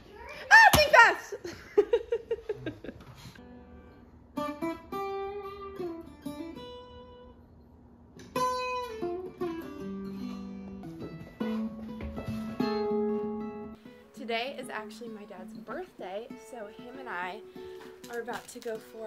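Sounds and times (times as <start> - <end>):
acoustic guitar picking: 3.4 - 19.0.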